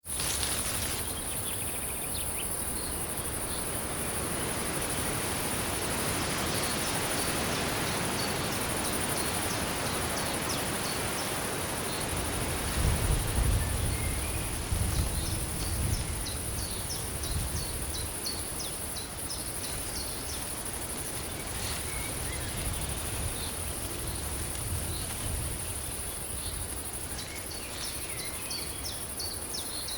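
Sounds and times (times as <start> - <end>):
crickets chirping: 0.0 - 29.9
high insect drone: 0.1 - 29.9.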